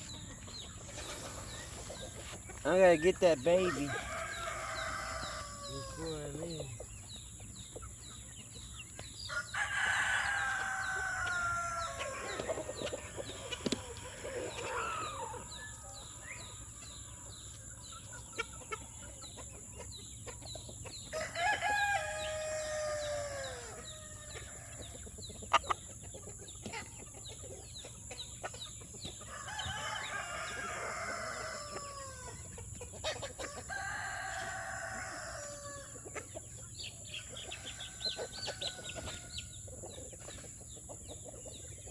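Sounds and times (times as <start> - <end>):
roosters crowing: 0.0 - 7.4, 9.1 - 19.3, 20.6 - 26.8, 27.6 - 41.9
hens clucking: 0.0 - 41.9.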